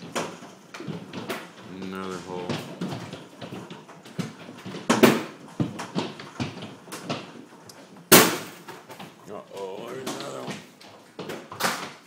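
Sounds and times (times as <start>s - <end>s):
hailstones thudding on roof: 0.0s - 12.0s
steady background noise: 0.0s - 12.0s.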